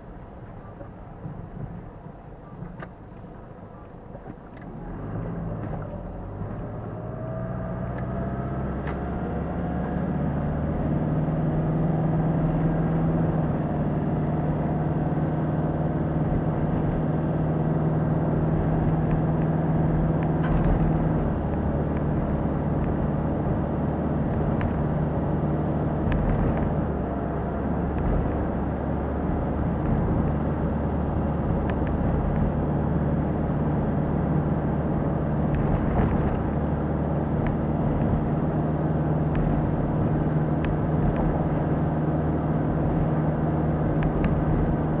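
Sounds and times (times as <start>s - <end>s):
car engine hum: 0.0s - 45.0s
road and tyre noise: 0.0s - 45.0s.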